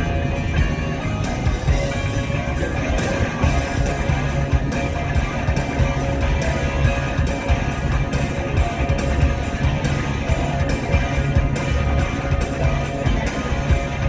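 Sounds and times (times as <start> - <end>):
strummed guitar music: 0.0 - 14.0.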